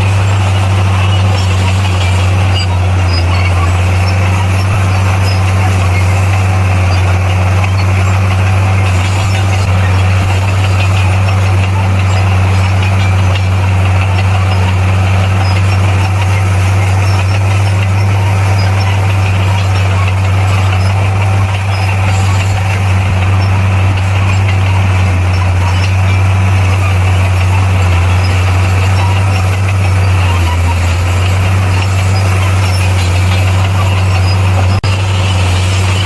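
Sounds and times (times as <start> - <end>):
bulldozer diesel engine droning: 0.0 - 36.0.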